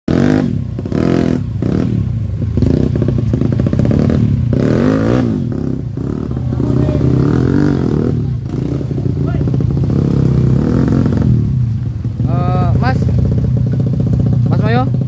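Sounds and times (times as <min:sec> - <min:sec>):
dirt bike engine revving: 0:00.1 - 0:15.0.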